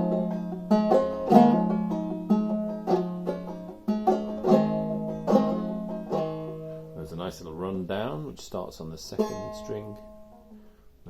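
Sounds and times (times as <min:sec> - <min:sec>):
banjo played clawhammer style: 0:00.0 - 0:10.8.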